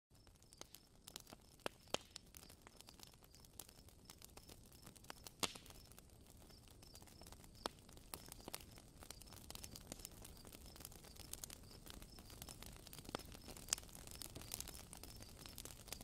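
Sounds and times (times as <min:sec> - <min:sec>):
sharp pops and clicks: 0:00.1 - 0:16.0.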